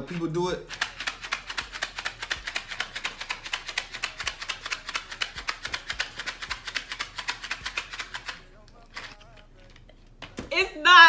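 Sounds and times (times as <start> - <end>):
candies rattling in cardboard box: 0.0 - 9.5.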